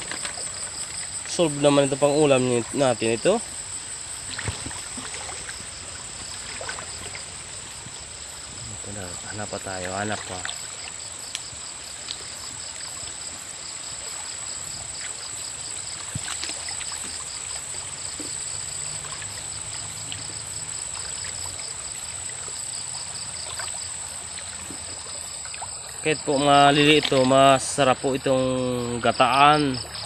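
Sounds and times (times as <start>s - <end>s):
night insects chirring: 0.0s - 30.0s
wading through stream water: 0.0s - 30.0s.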